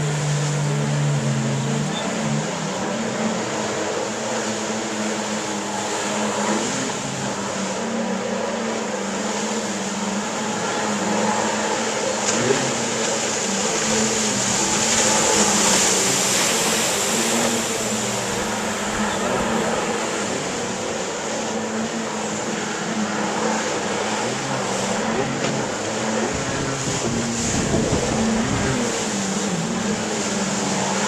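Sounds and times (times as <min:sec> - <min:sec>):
jet ski engines droning: 0:00.0 - 0:31.0.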